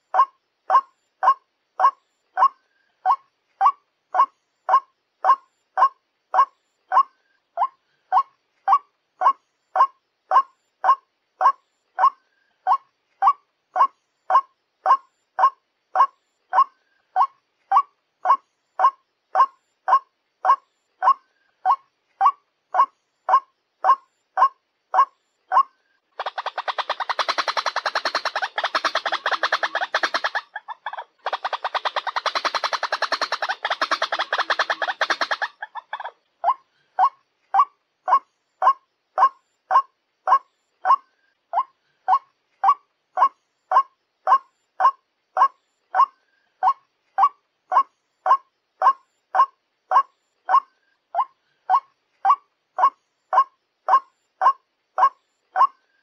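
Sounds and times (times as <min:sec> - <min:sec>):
bird chattering: 0:00.0 - 0:55.8
bird croaking call: 0:00.0 - 0:56.0.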